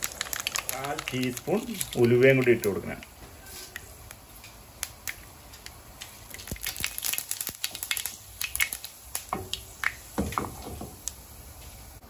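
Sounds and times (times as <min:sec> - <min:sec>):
seeds crackling in hot oil: 0:00.0 - 0:12.0.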